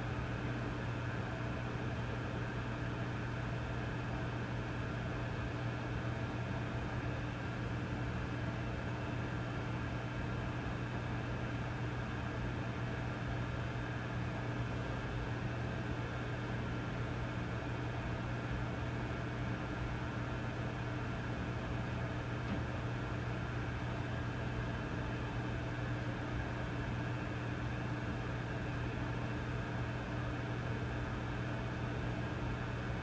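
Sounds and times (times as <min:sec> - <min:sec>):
low mains hum: 0:00.0 - 0:33.0.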